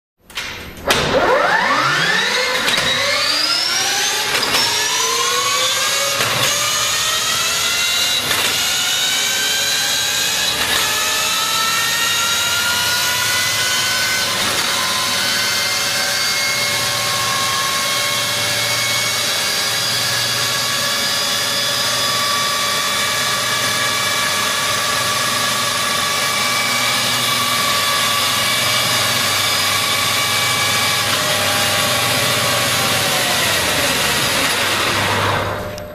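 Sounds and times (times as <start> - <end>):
electric motorcycle whine: 1.0 - 35.9.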